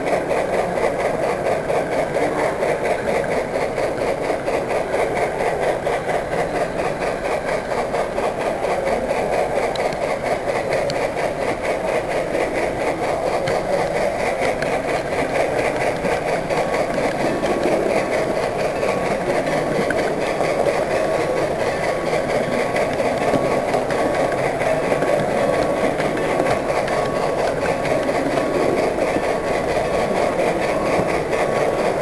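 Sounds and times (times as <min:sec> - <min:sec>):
model train rolling on track: 0:00.0 - 0:32.0.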